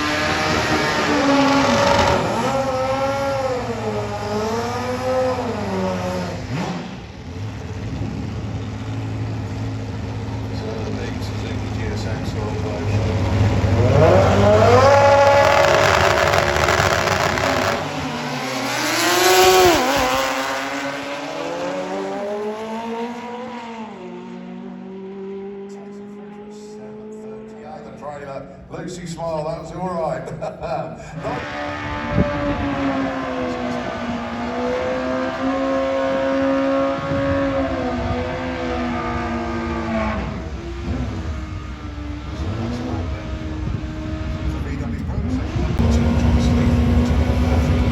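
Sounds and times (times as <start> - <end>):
drag motorcycle engines full throttle: 0.0 - 47.9.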